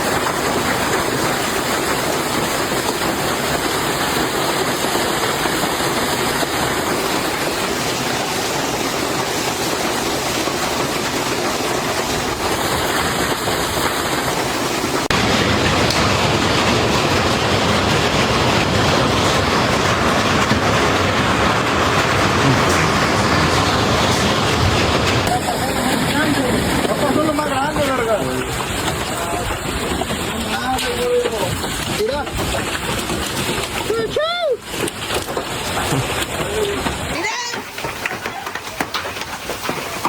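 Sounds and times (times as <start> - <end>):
heavy hail clattering: 0.0 - 40.0.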